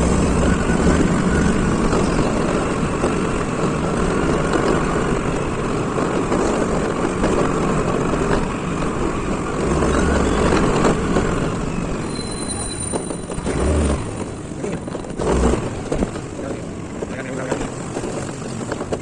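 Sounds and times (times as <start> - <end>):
small scooter engine: 0.0 - 19.0.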